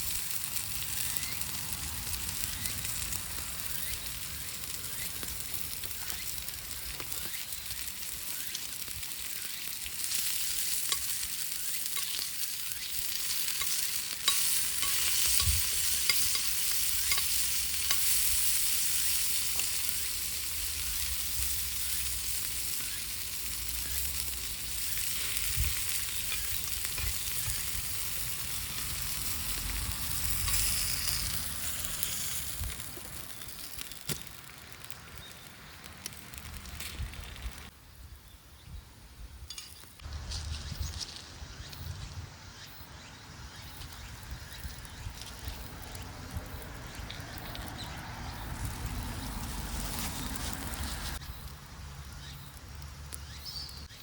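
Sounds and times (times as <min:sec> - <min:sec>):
fire crackling: 0:00.0 - 0:42.3, 0:43.2 - 0:54.0
food sizzling over wood fire: 0:00.0 - 0:54.0.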